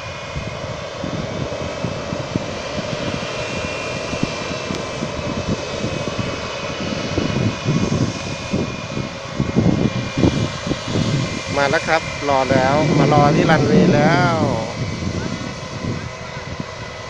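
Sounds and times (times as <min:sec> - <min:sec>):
high engine whine: 0:00.0 - 0:17.0
jet engines rushing: 0:00.0 - 0:17.0.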